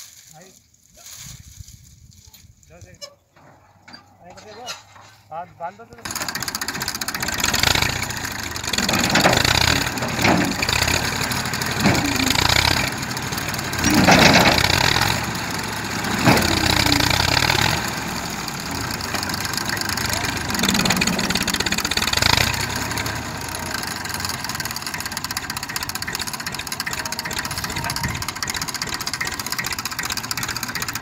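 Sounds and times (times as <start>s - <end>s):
tractor diesel engine revving: 6.0s - 31.0s.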